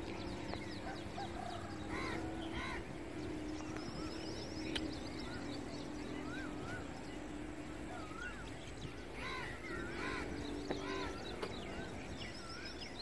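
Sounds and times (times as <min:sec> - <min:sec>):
birds calling: 0:00.0 - 0:13.0
steady low hum: 0:00.0 - 0:13.0.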